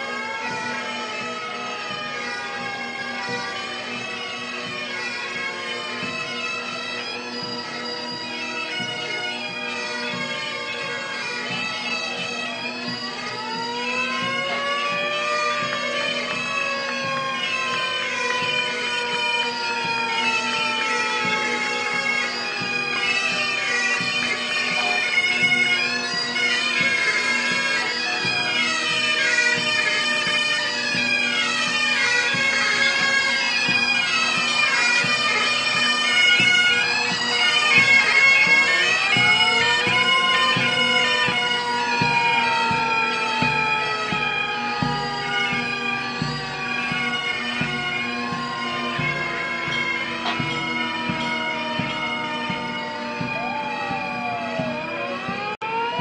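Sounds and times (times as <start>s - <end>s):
bagpipes playing: 0.0s - 56.0s.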